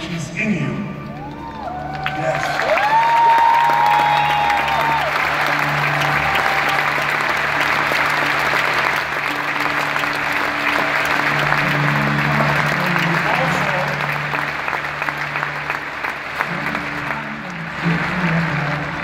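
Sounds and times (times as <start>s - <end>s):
soft sustained music: 0.0s - 19.0s
crowd applauding: 1.0s - 19.0s.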